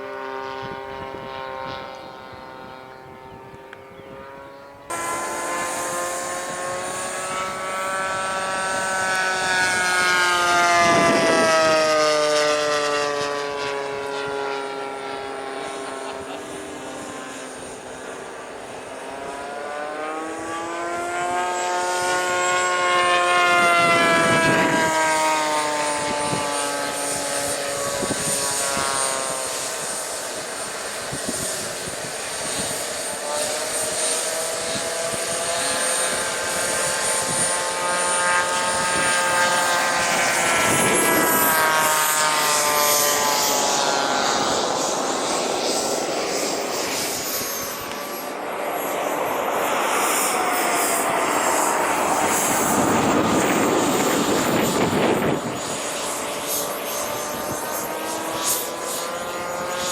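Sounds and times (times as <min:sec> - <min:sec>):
model aircraft engine flyby: 0:00.0 - 0:59.9
thin high whine: 0:00.0 - 0:59.9.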